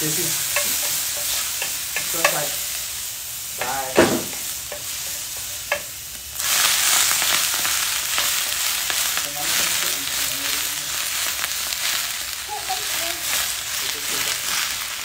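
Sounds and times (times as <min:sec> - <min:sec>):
leaves sizzling in hot oil: 0:00.0 - 0:15.0
wooden spatula stirring in pan: 0:00.0 - 0:15.0.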